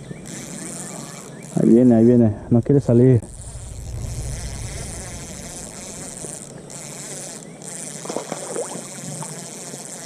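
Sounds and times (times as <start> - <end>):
high-pitched insect drone: 0.0 - 2.1, 2.7 - 10.0.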